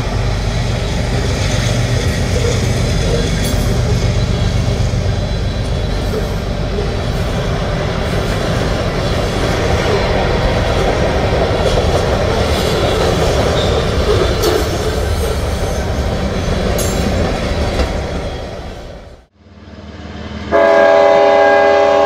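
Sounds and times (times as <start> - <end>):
train wheels on rail: 0.0 - 22.0.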